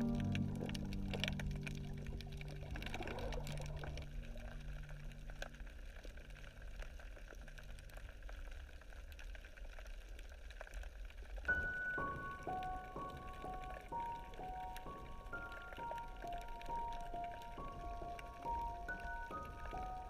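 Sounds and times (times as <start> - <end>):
water sounds: 0.0 - 20.0.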